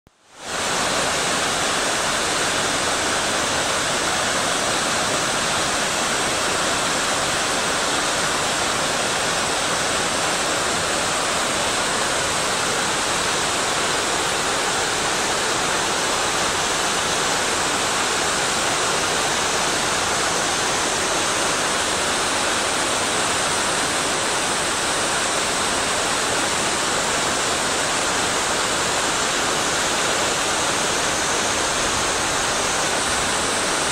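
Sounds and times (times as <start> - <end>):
mountain water rushing: 0.2 - 33.9.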